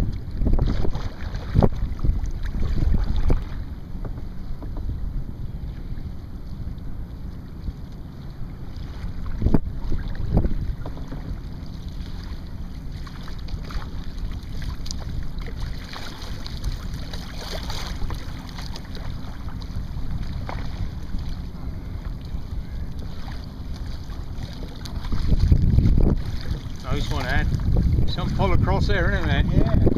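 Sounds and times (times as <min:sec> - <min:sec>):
paddle splashes: 0:00.0 - 0:04.9, 0:05.6 - 0:28.5
water lapping at a kayak: 0:00.0 - 0:29.9
wind buffeting microphone: 0:00.0 - 0:29.9.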